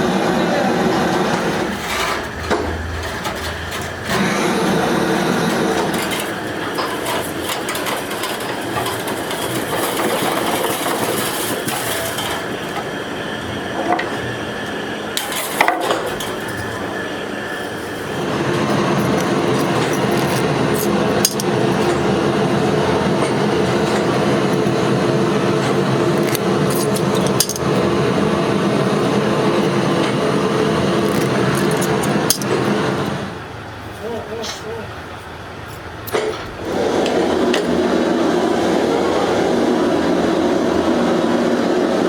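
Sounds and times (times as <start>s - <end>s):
workshop machinery humming: 0.0s - 42.0s.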